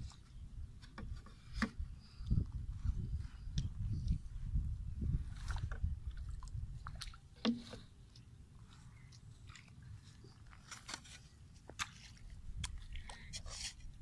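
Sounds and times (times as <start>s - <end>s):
dry soil crunching: 2.7s - 14.0s.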